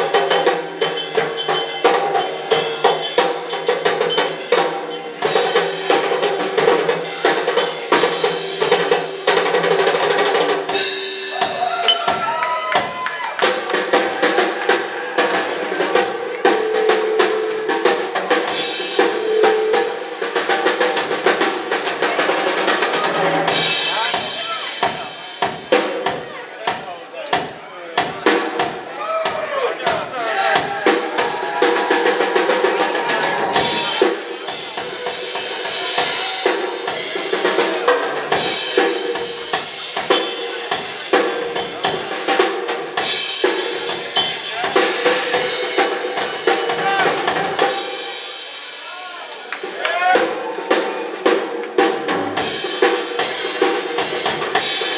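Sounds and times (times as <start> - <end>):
rock drum solo: 0.0 - 54.9.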